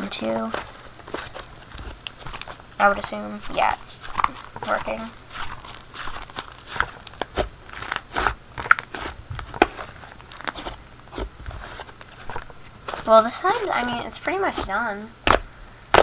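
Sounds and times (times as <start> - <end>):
slime being kneaded by hand: 0.0 - 16.0.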